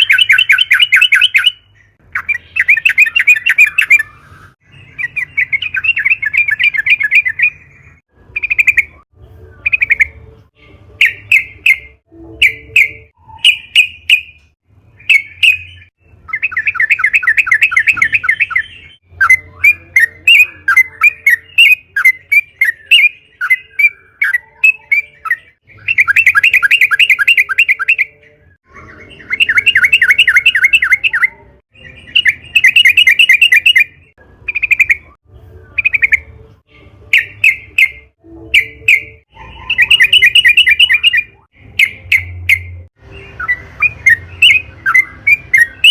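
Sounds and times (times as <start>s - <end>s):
bird singing with rolling trills: 0.0s - 45.9s.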